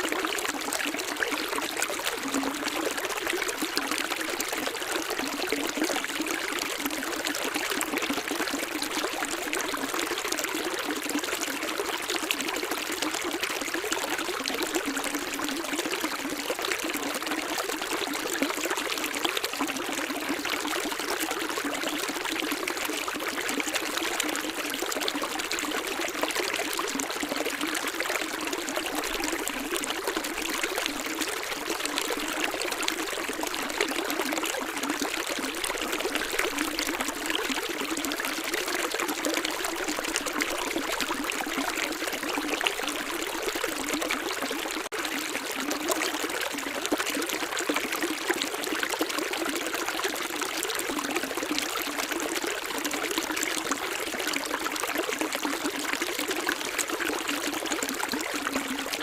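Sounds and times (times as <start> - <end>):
stream trickling and splashing: 0.0 - 59.0.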